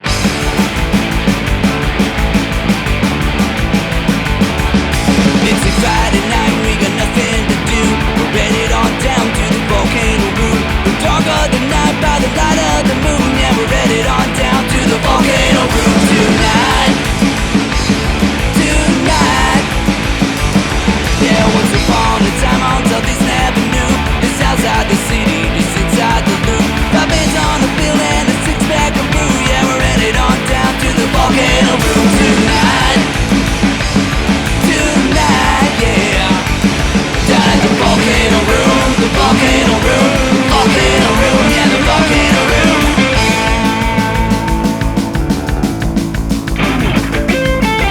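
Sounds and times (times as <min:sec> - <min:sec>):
punk rock band playing: 0:00.0 - 0:47.9.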